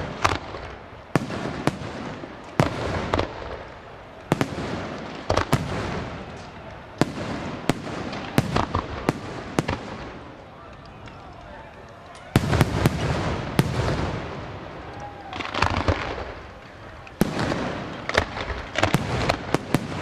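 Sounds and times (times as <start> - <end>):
crackling hiss of fireworks: 0.0 - 20.0.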